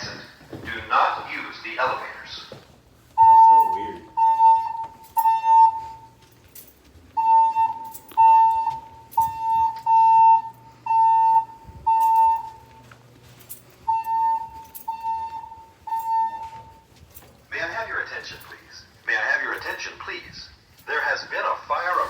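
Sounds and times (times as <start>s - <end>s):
fire alarm beeps: 0.0s - 22.0s.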